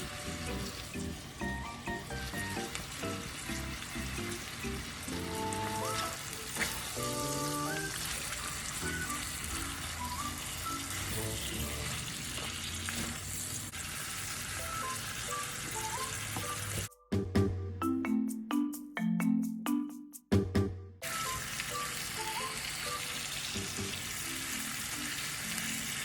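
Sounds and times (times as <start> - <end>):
soft background music: 0.0 - 12.5, 14.5 - 26.0
chicken and vegetables sizzling: 0.0 - 16.9, 21.0 - 26.0.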